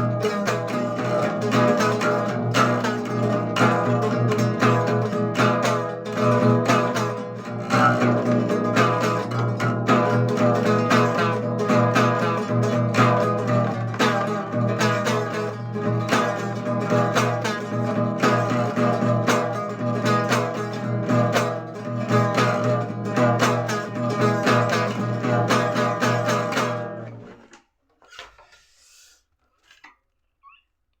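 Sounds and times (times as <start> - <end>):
strummed guitar chords: 0.0 - 27.5.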